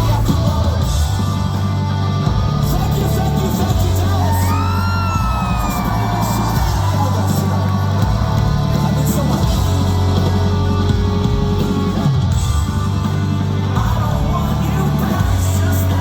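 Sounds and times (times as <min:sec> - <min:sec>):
loud live rock band playing: 0:00.0 - 0:16.0.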